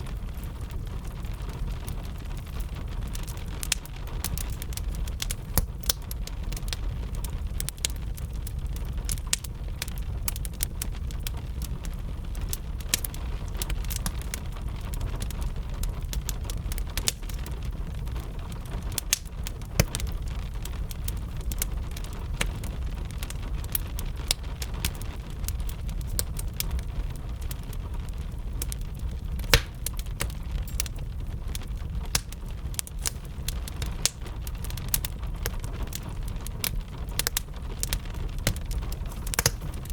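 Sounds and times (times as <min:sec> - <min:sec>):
gentle rain: 0:00.0 - 0:39.9
wood fire crackling and popping: 0:00.0 - 0:39.9.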